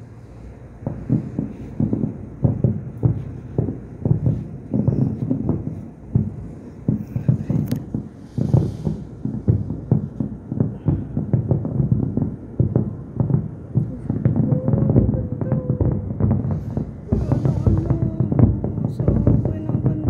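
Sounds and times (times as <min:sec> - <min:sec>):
distant fireworks booms and pops: 0:00.8 - 0:20.0.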